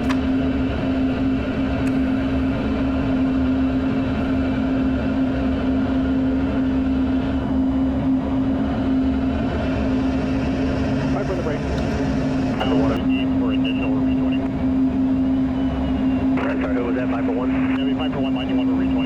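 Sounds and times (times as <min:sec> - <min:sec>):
cockpit droning hum: 0:00.0 - 0:19.0
jet engine noise: 0:00.0 - 0:19.0.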